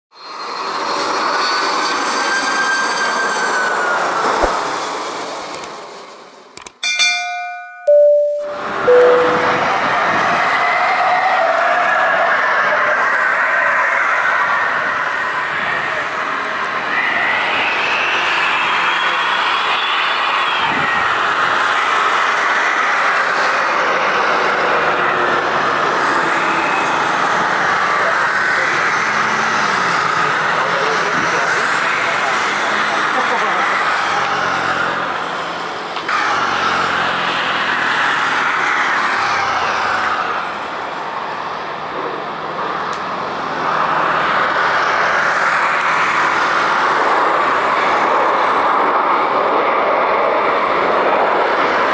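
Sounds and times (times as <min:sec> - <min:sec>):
jet airliner engine whine: 0:00.2 - 0:06.7, 0:07.9 - 0:51.9.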